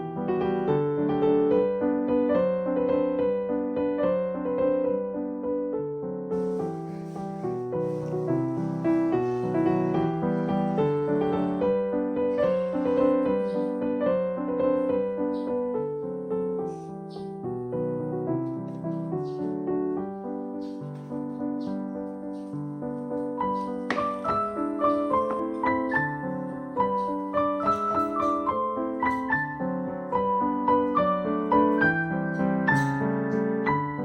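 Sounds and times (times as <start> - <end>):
gentle piano melody: 0.0 - 34.0.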